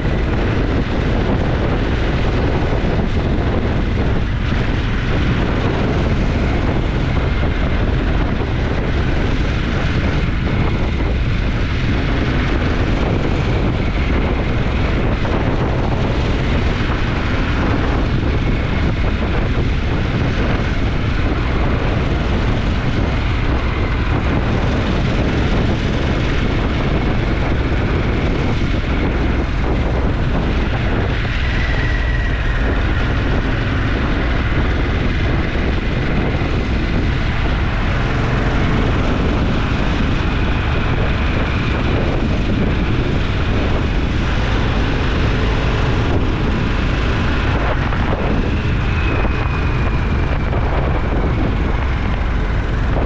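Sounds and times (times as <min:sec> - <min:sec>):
motorcycle engine cruising: 0:00.0 - 0:53.0
wind rush on microphone: 0:00.0 - 0:53.0.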